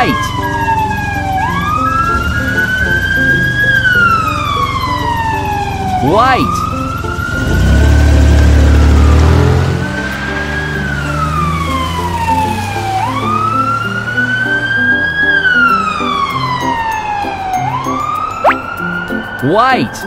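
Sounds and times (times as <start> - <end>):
ambulance siren wailing: 0.0 - 20.0
light music: 0.0 - 20.0.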